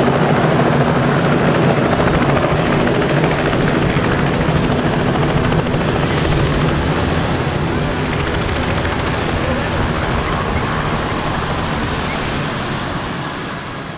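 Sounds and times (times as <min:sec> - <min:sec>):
helicopter engine noise: 0:00.0 - 0:13.9
helicopter rotor chop: 0:00.0 - 0:13.9.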